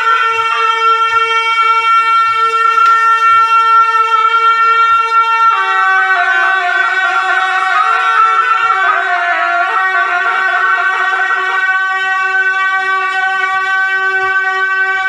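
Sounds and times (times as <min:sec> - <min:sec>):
double-reed shawm: 0:00.0 - 0:15.0.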